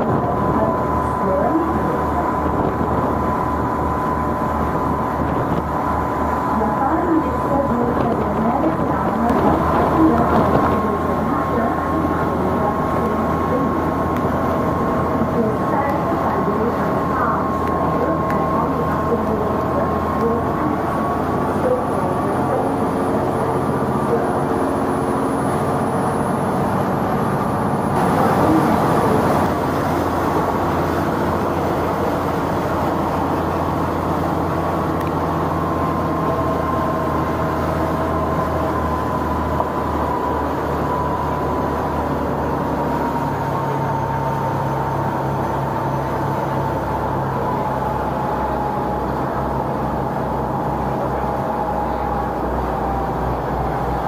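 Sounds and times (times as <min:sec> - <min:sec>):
boat engine droning: 0:00.0 - 0:54.0
rush of noise: 0:00.0 - 0:54.0.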